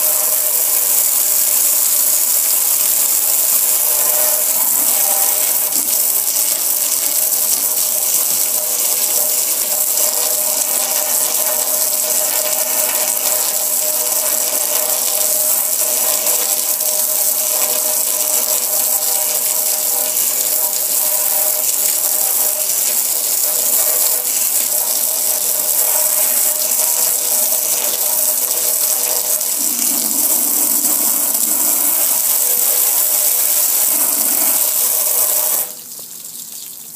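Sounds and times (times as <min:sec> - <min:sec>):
water jet spraying on metal: 0:00.0 - 0:36.6
mechanical hum: 0:00.0 - 0:36.9.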